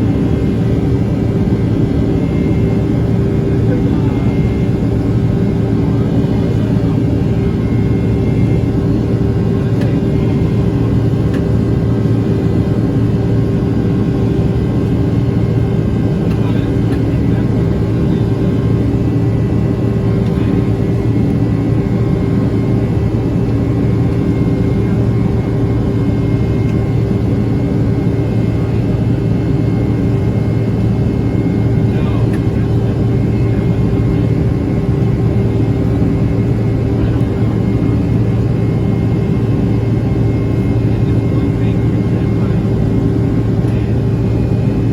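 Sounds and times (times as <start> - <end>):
constant low hum: 0.0 - 44.9
jet engine and airflow noise: 0.0 - 44.9.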